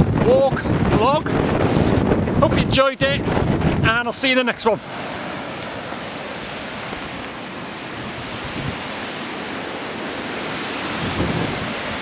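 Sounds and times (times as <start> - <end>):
wind on microphone: 0.0 - 4.1, 4.7 - 12.0.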